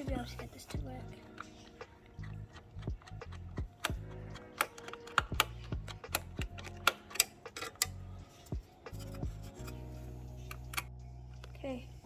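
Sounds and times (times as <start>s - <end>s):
small hard parts clicking: 0.0s - 11.6s
quiet background music: 0.0s - 12.0s.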